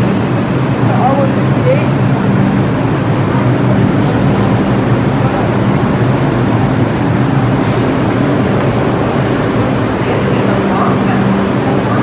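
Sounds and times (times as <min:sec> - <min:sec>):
station noise: 0:00.0 - 0:12.0
train equipment humming: 0:00.0 - 0:12.0.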